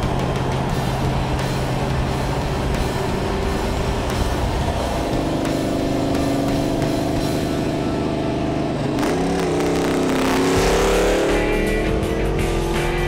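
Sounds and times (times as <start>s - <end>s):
background music: 0.0s - 13.0s
car engine accelerating: 0.0s - 13.0s.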